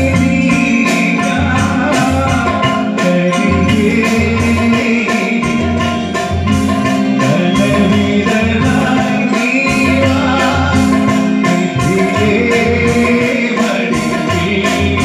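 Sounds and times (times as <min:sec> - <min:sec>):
drum and percussion beat: 0:00.0 - 0:15.0
man singing into a microphone: 0:00.0 - 0:15.0.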